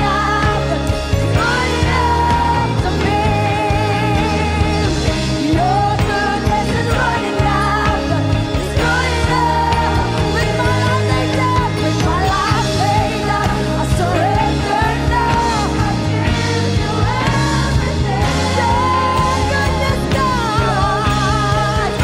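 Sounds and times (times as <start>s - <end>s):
live band playing slow rock: 0.0s - 22.0s.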